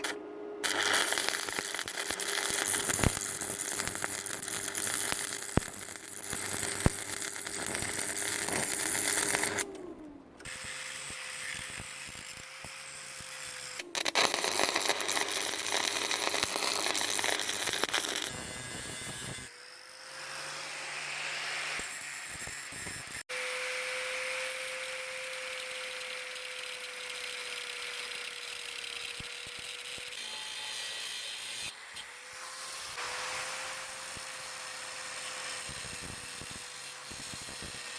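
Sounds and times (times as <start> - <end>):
angle grinder cutting steel: 0.0 - 37.9.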